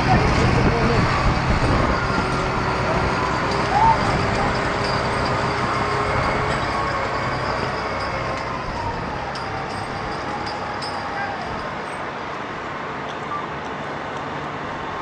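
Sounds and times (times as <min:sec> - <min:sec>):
wheel loader diesel engine running: 0:00.0 - 0:13.0.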